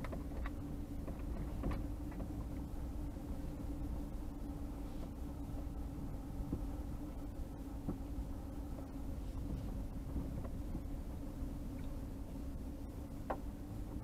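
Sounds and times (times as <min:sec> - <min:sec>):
faint ticks and rattles: 0:00.0 - 0:14.0
road rumble: 0:00.0 - 0:14.0
vehicle engine hum: 0:00.0 - 0:14.0.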